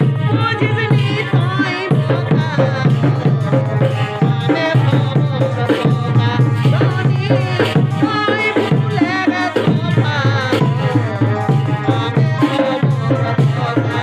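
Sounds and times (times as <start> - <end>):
hand drum beat: 0.0 - 14.0.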